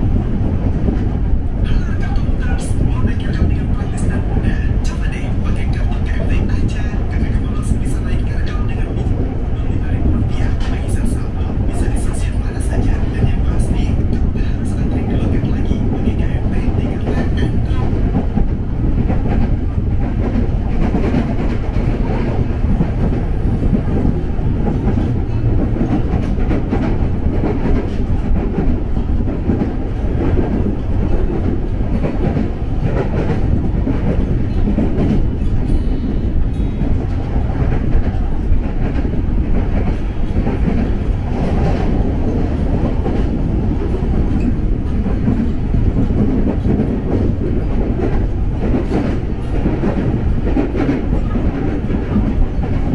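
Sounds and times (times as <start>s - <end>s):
train wheels rumbling on track: 0.0s - 52.9s.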